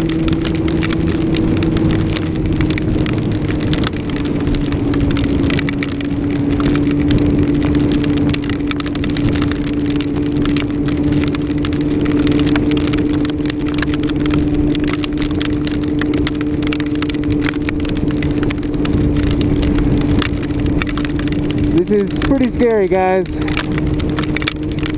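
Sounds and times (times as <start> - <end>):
hail ticking on helmet: 0.0 - 24.9
motorcycle engine running: 0.0 - 24.9
wind and road noise: 0.0 - 24.9.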